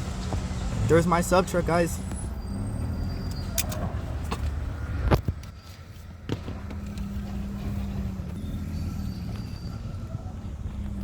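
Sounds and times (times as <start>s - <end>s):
garbage truck engine humming: 0.0s - 11.0s.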